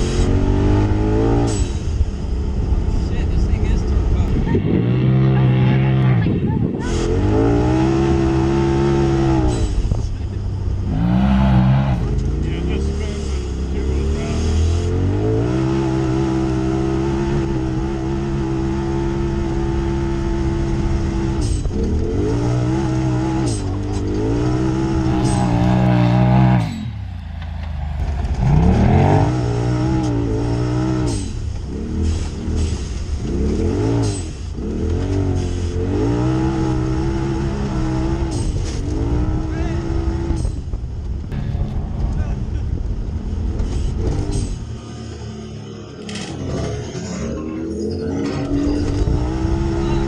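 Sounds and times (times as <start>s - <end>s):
engine revving: 0.0s - 40.6s, 41.3s - 50.0s.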